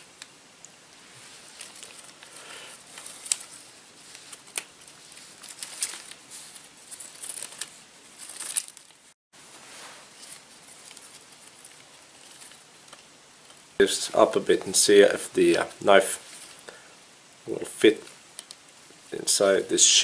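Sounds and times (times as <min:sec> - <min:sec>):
bark strips crackling and rustling: 0:00.0 - 0:16.7, 0:17.3 - 0:19.6.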